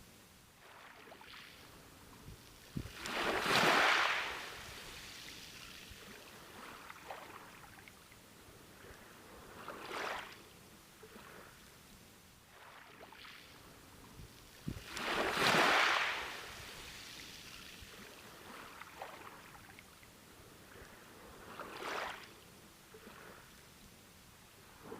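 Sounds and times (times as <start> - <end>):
soft hiss of surf: 0.0 - 24.9
waves breaking on beach: 0.6 - 11.7, 12.5 - 23.6, 24.4 - 24.9.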